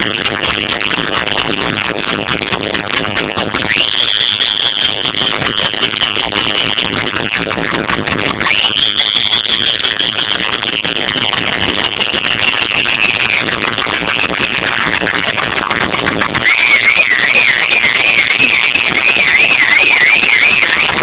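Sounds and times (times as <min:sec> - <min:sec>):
electronic music over sound system: 0:00.0 - 0:21.0
high rising tone: 0:00.0 - 0:21.0.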